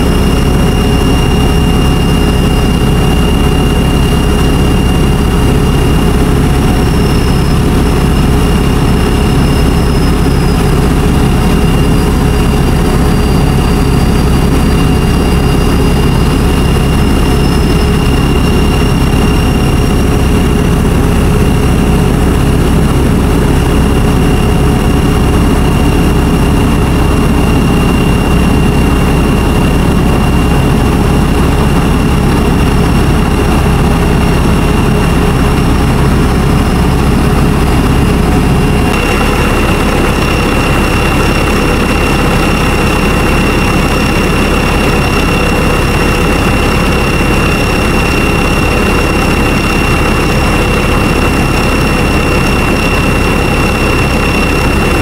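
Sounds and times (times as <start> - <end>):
heavy engine rumbling: 0.0 - 55.0
high-pitched whine: 0.0 - 55.0.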